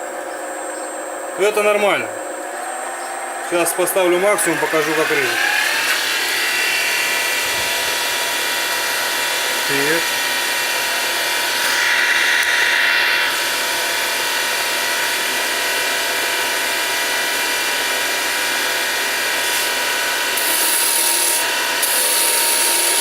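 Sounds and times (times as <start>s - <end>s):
lathe motor whine: 0.0s - 23.0s
chisel cutting spinning wood: 2.6s - 23.0s.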